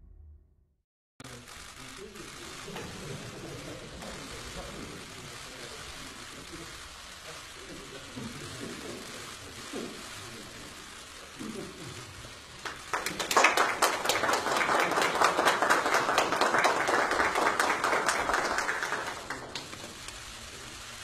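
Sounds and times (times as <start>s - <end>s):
people applauding: 1.2s - 21.0s.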